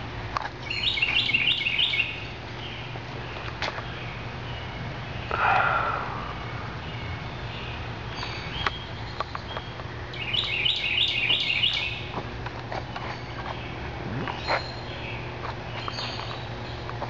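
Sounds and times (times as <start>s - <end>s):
steady low hum: 0.0s - 17.0s
birds chirping: 0.6s - 17.0s.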